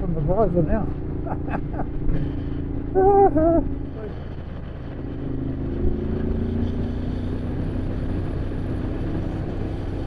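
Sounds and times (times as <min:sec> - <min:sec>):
motorcycle engine cruising: 0:00.0 - 0:10.0.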